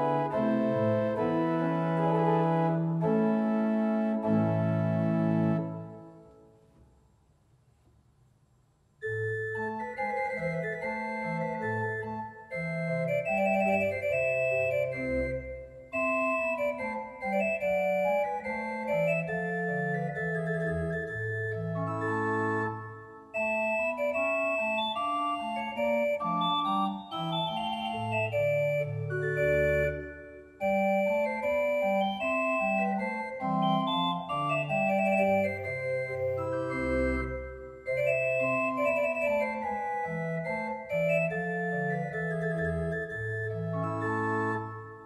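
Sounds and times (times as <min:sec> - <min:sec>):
pipe organ playing: 0:00.0 - 0:06.3, 0:09.0 - 0:45.0.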